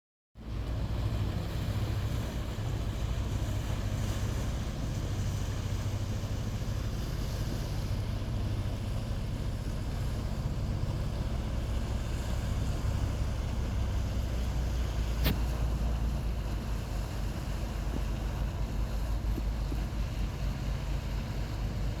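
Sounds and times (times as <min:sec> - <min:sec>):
boat engine humming: 0:00.4 - 0:22.0
wind and water hiss: 0:00.4 - 0:22.0.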